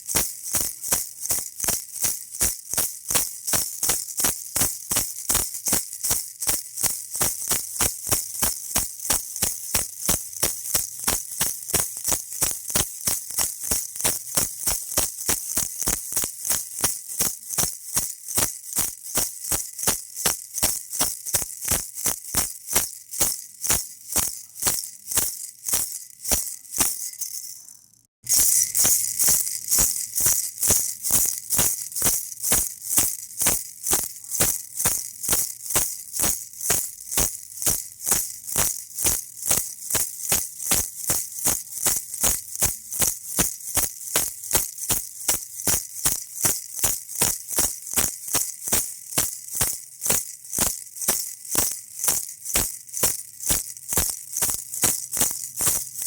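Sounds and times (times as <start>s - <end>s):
baby rattle shaking: 0.0s - 56.0s.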